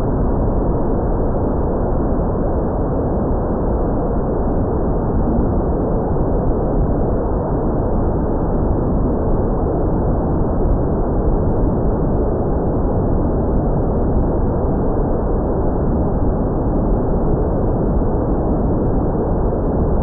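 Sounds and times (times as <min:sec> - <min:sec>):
wind rushing on microphone: 0:00.0 - 0:20.0.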